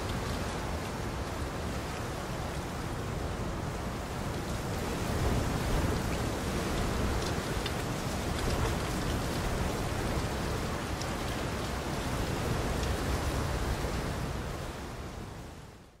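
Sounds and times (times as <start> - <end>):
rain falling on water: 0.0 - 16.0.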